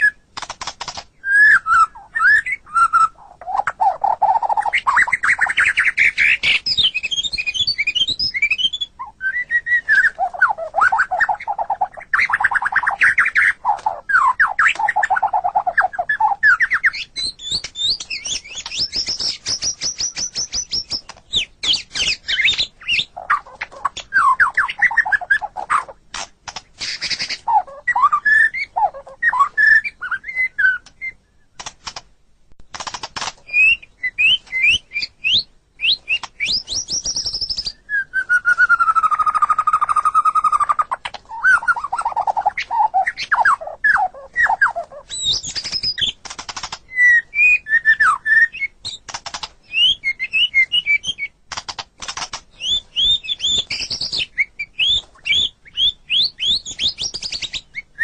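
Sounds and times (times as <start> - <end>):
songbird singing whistled phrases: 0.0 - 0.2, 1.2 - 26.0, 26.8 - 31.6, 33.5 - 46.2, 46.9 - 49.0, 49.6 - 51.4, 52.5 - 58.0.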